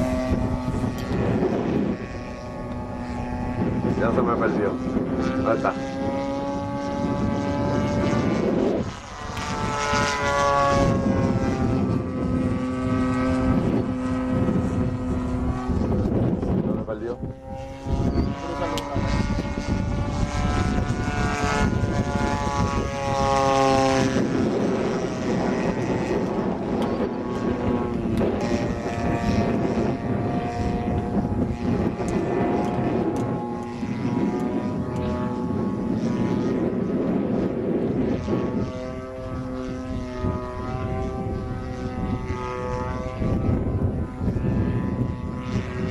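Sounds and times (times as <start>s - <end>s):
model plane engine droning: 0.0s - 45.9s.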